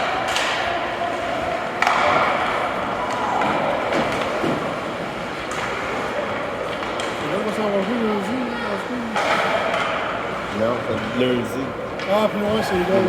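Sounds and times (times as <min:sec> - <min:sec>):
hockey sticks and puck clacking: 0:00.0 - 0:08.3, 0:09.1 - 0:11.2, 0:11.9 - 0:12.4.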